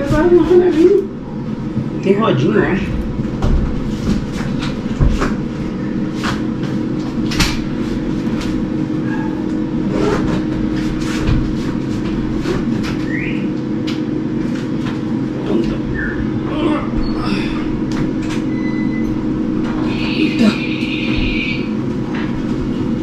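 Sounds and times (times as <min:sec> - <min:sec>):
refrigerator rolling on casters: 0:02.0 - 0:23.0.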